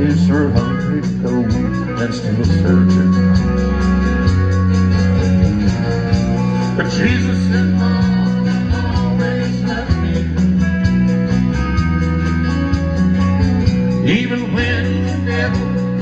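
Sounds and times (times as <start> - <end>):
bass guitar: 0.0 - 16.0
electric guitar: 0.0 - 16.0
steady drum beat: 0.0 - 16.0.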